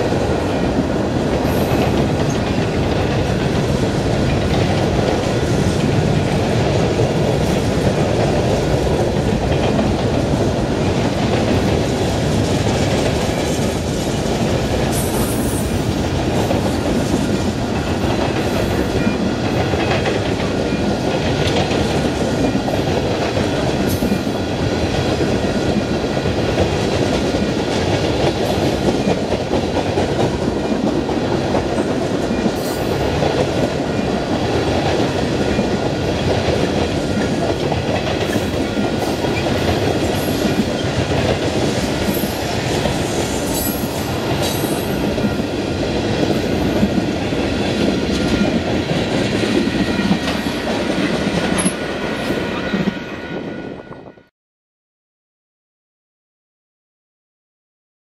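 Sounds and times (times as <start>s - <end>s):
train wheels rumbling on rails: 0.0s - 54.3s.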